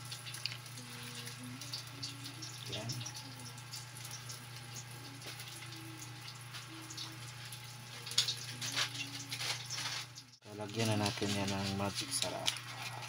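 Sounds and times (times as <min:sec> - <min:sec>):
wood fire crackling and sizzling: 0:00.0 - 0:13.0.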